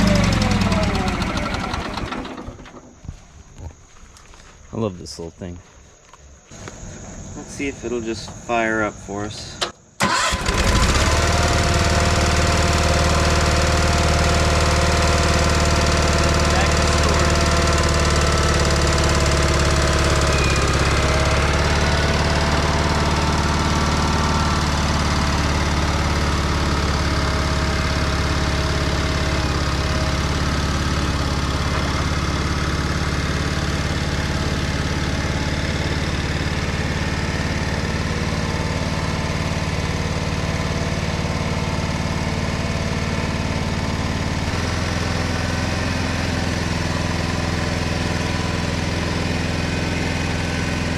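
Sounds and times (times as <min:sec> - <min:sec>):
small gasoline engine idling: 0:00.0 - 0:03.0, 0:10.0 - 0:50.9.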